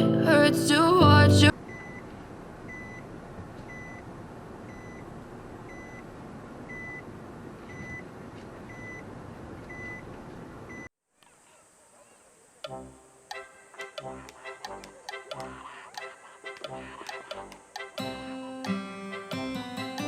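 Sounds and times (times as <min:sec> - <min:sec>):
background noise: 0:00.0 - 0:20.0.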